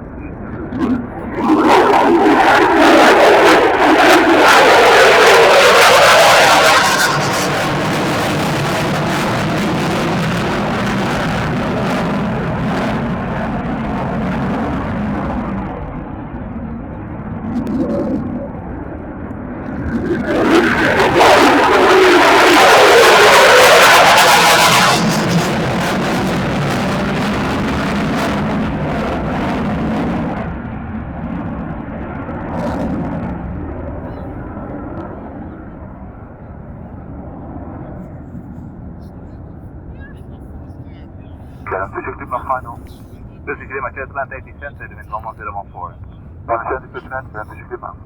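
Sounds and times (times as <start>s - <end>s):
jet aircraft engine roar: 0.0s - 48.0s.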